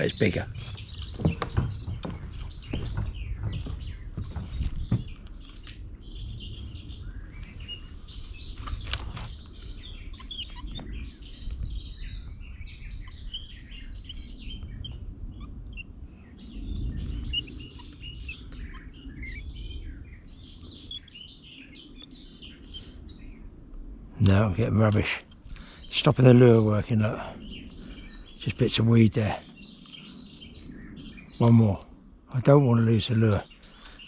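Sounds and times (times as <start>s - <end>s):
small birds singing: 0.0s - 34.0s.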